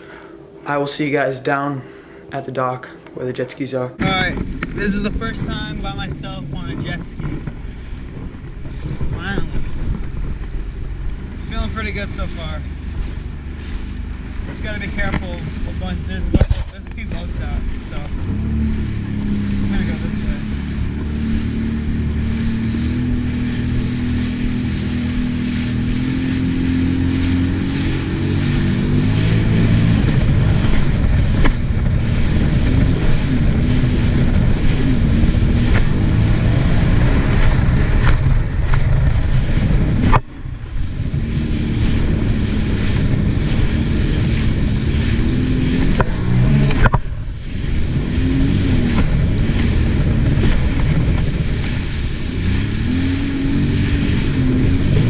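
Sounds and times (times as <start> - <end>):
jet ski engine running: 0.0 - 55.0
wind and water noise: 0.0 - 55.0.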